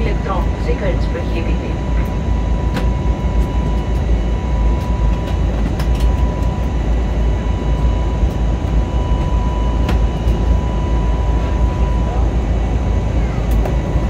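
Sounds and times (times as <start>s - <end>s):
engine and airflow rumble: 0.0s - 14.0s.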